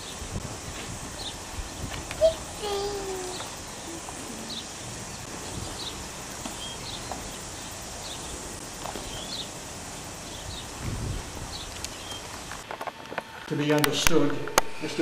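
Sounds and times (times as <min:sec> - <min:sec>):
small birds chirping: 0:00.0 - 0:12.6
open-air background noise: 0:00.0 - 0:15.0.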